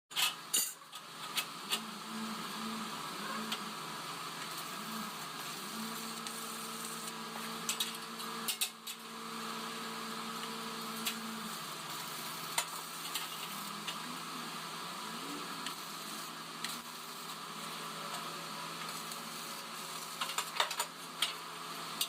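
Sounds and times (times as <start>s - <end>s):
arc welding crackling sizzle: 0.1s - 22.0s.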